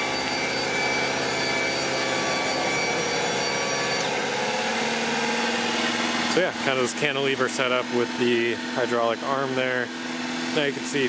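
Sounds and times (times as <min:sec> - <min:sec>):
hydraulic pump whining: 0:00.0 - 0:11.0.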